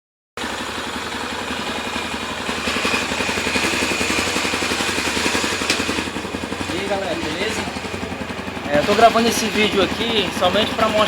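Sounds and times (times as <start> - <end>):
motorcycle engine idling: 0.4 - 11.0.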